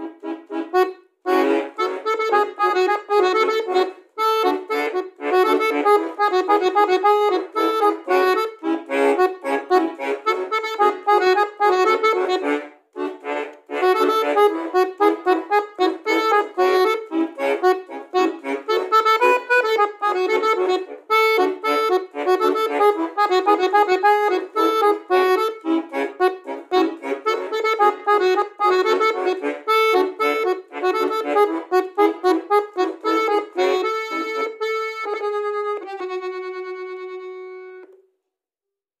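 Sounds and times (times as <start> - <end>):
button accordion playing melody: 0.0 - 38.0.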